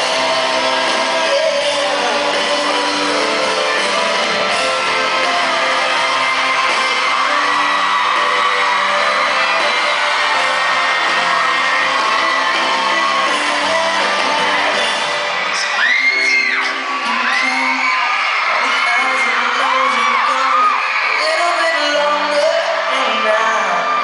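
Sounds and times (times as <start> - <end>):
fans cheering: 0.0 - 24.0
high-pitched crowd scream: 0.0 - 24.0
pop rock band playing live: 0.0 - 24.0.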